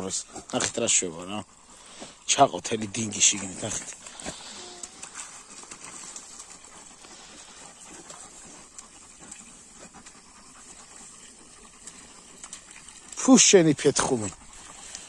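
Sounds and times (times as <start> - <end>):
dogs digging and scuffling: 0.0 - 15.0.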